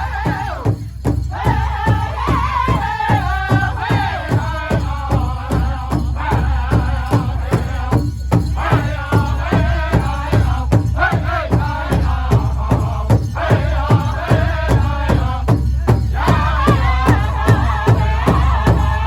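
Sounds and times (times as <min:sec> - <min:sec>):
big drum steady beat: 0:00.0 - 0:19.0
men singing together: 0:00.0 - 0:19.0.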